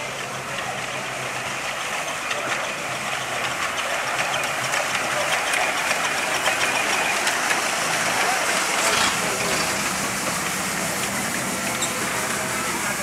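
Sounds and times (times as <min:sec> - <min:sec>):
steam locomotive running past: 0:00.0 - 0:13.0.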